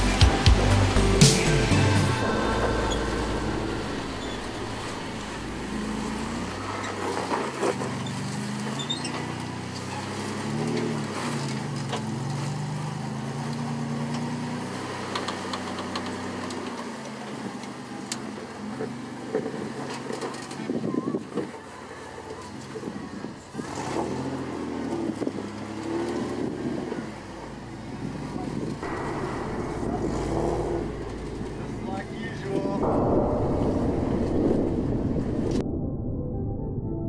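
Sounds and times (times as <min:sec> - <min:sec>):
buggy engine revving: 0:00.0 - 0:32.8.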